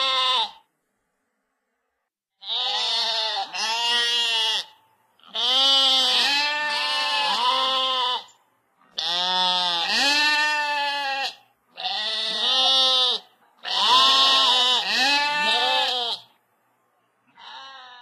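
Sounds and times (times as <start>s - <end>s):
sheep bleating: 0.0s - 0.6s, 2.4s - 16.3s, 17.3s - 18.0s.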